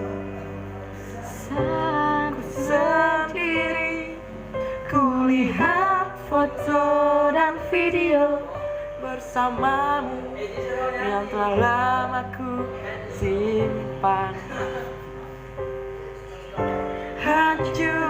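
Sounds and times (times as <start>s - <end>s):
woman singing with vibrato: 0.0s - 15.0s, 17.2s - 18.0s
keyboard accompaniment: 0.0s - 18.0s.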